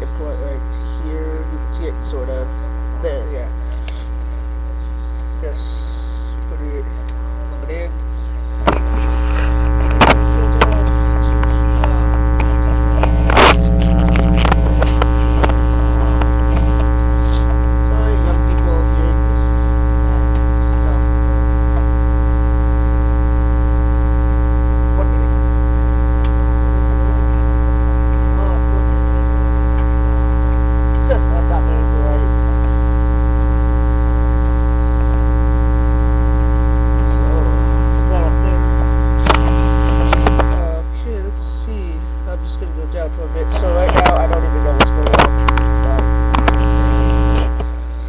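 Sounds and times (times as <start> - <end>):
electrical mains hum: 0.0 - 48.0.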